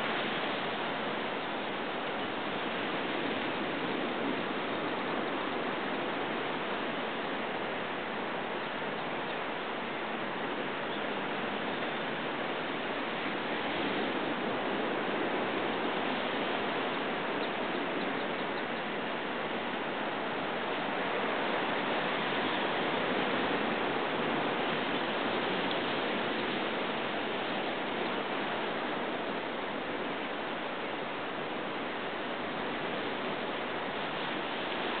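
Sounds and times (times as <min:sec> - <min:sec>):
surf washing over rocks: 0:00.0 - 0:35.0.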